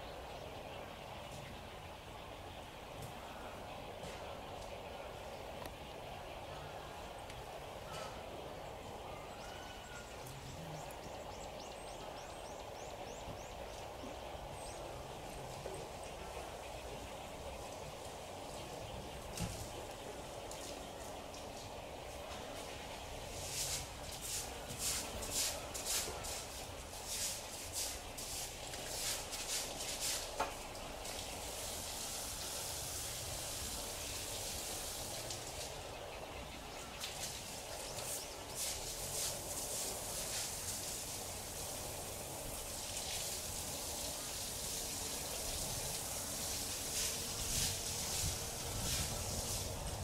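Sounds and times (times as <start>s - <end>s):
high pulsing hiss: 0.0s - 50.0s
outdoor background noise: 0.0s - 50.0s.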